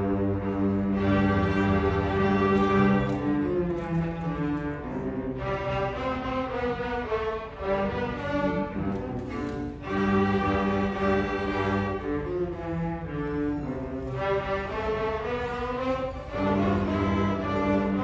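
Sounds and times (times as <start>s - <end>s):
string orchestra bowing held notes: 0.0s - 18.0s.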